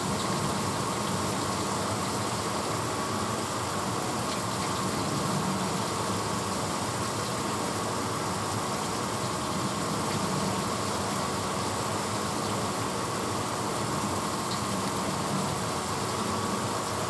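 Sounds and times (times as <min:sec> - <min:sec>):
dishwasher motor hum: 0:00.0 - 0:17.0.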